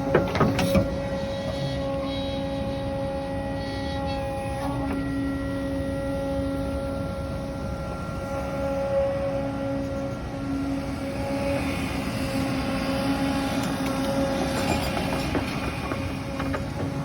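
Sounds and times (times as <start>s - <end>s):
diesel engine drone: 0.0s - 17.0s
steady machine whine: 0.0s - 17.0s.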